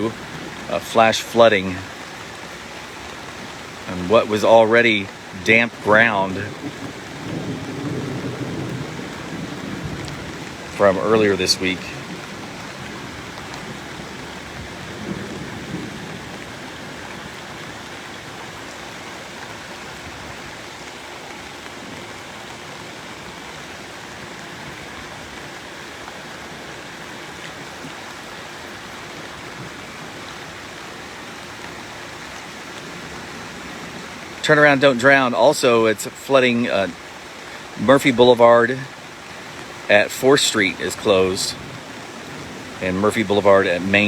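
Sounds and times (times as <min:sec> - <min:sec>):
water rushing: 0:00.0 - 0:44.0.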